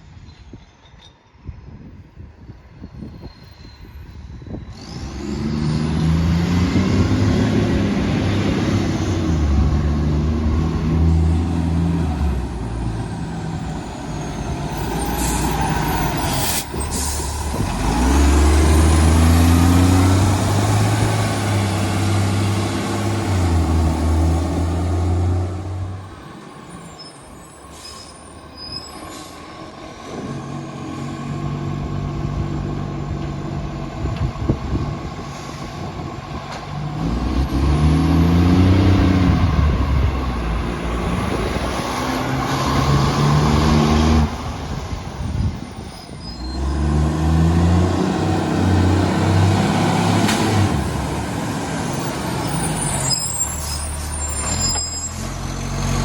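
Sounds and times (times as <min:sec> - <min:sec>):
diesel engine revving: 0:04.7 - 0:26.8, 0:27.7 - 0:45.6, 0:46.4 - 0:56.0.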